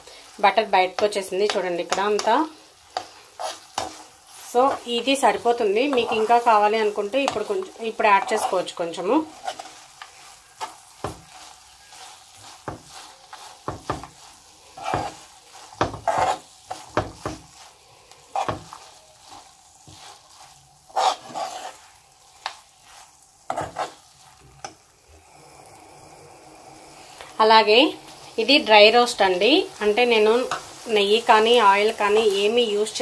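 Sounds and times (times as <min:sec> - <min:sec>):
ghee sizzling: 0:00.0 - 0:33.0
spoon scraping a frying pan: 0:00.9 - 0:24.9, 0:27.1 - 0:32.5.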